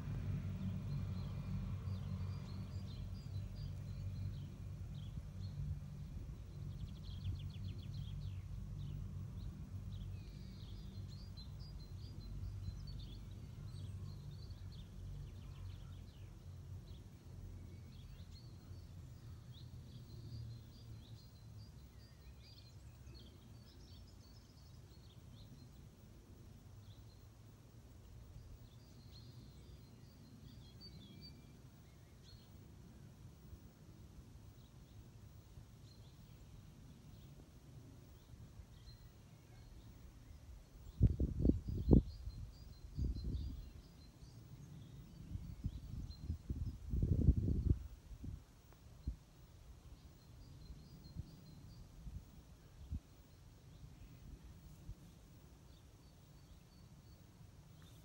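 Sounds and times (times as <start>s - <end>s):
small birds chirping: 0.7s - 58.0s.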